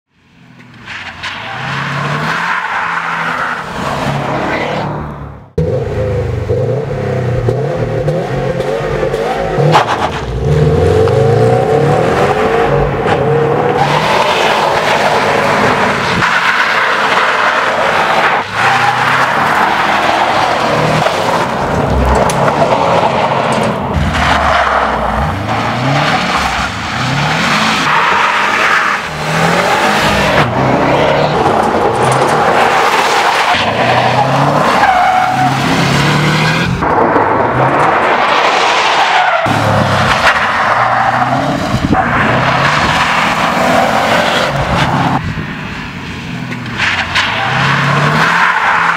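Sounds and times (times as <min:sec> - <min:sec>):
car engine revving hard: 0:01.5 - 0:38.2, 0:46.3 - 0:48.9.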